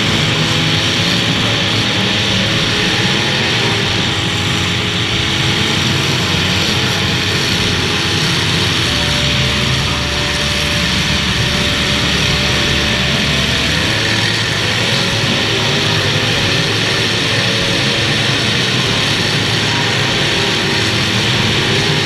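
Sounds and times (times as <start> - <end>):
several car engines running: 0.0 - 22.0.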